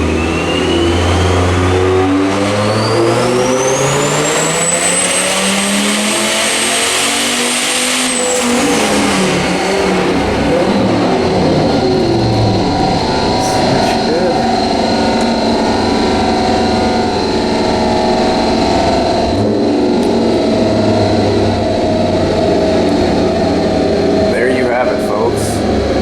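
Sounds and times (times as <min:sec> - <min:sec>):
engine revving at full throttle: 0:00.0 - 0:26.0
turbo whine: 0:00.0 - 0:26.0.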